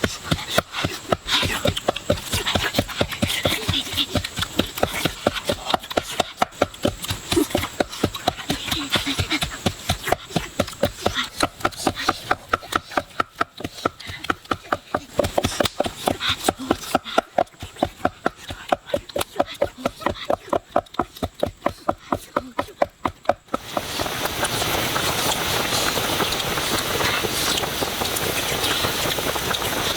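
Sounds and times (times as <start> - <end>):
food cooking hiss: 0.0 - 29.9.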